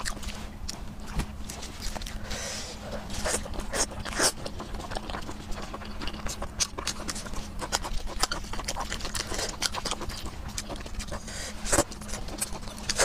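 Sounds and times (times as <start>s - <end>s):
faint steady hum: 0.0s - 13.0s
wet chewing and lip-smacking: 0.0s - 13.0s.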